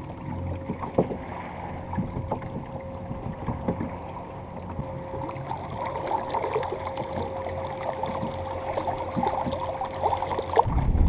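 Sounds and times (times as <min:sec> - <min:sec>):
waves slapping against hull: 0:00.0 - 0:11.0.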